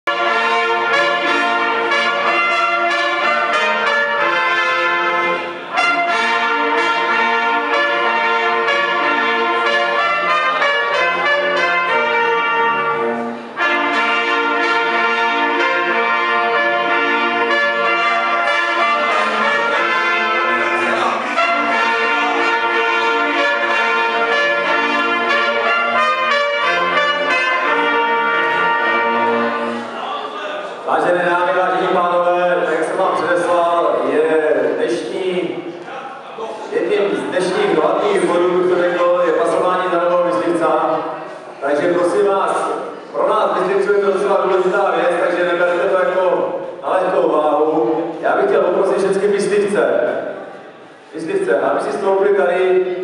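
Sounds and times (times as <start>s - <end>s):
trumpets playing a tune: 0.0s - 30.2s, 37.1s - 50.3s.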